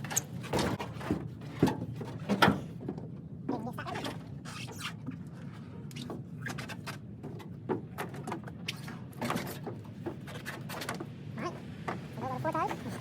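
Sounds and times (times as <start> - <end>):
irregular knocks and clatter: 0.0 - 4.4, 5.0 - 12.1.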